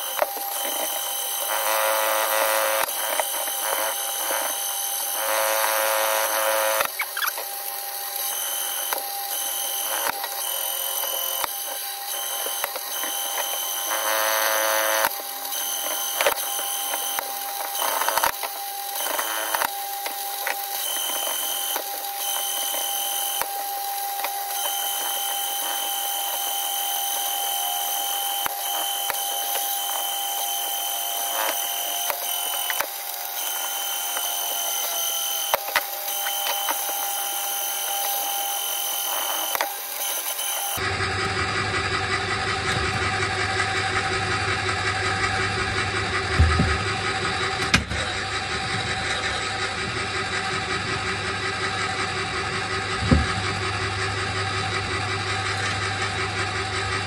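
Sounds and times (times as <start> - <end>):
cable-stripping machine whine: 0.0 - 57.0.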